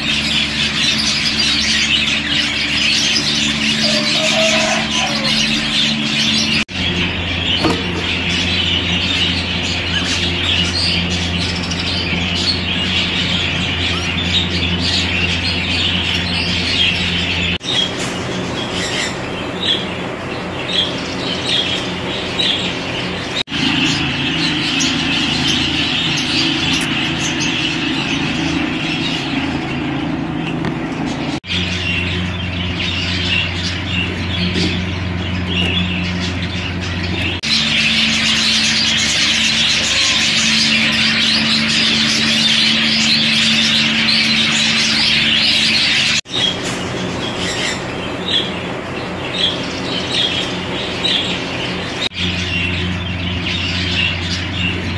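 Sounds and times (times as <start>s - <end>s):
budgerigars chattering: 0.0s - 54.9s
steady low hum: 0.0s - 54.9s.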